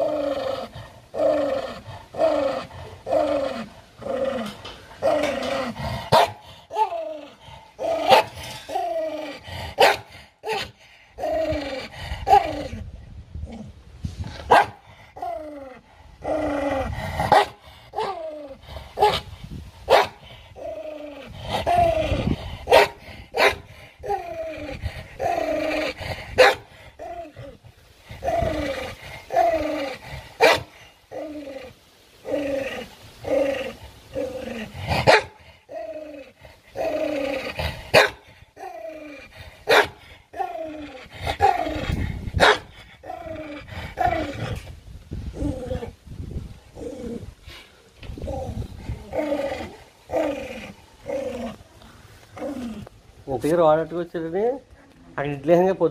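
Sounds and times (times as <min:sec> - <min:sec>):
dog snarling and growling: 0:00.0 - 0:46.0, 0:46.6 - 0:53.4.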